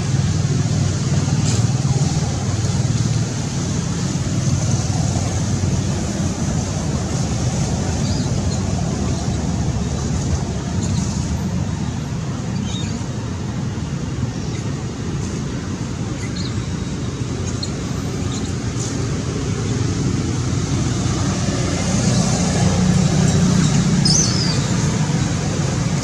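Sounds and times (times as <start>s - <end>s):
low rumbling background noise: 0.0s - 26.0s.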